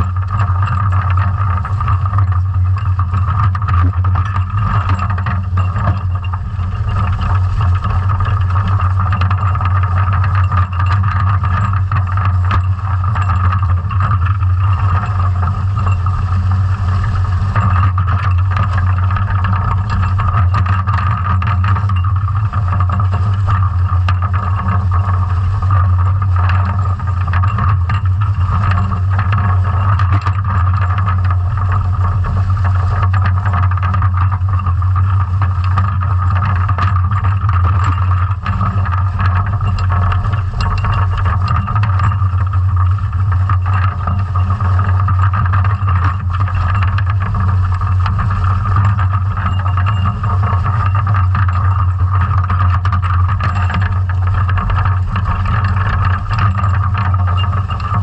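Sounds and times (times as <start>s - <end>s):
dredge clicks and knocks: 0.0s - 58.0s
underwater low drone: 0.0s - 58.0s.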